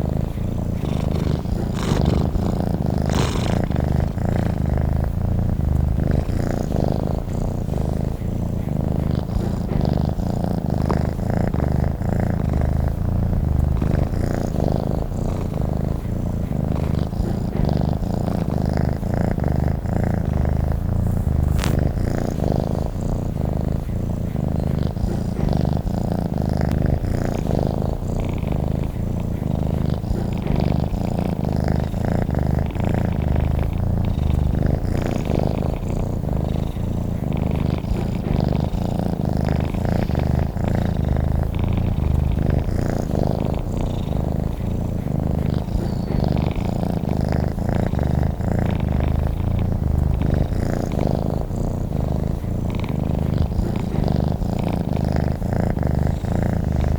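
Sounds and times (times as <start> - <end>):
cat purring: 0.0 - 56.9.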